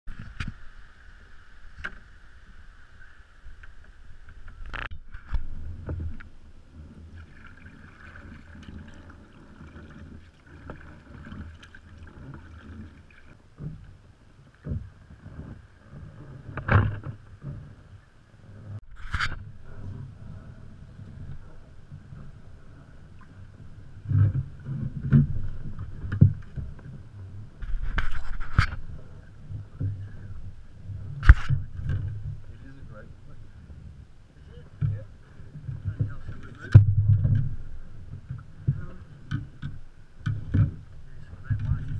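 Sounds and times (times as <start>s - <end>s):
water sloshing against kayak hull: 0.1s - 41.9s.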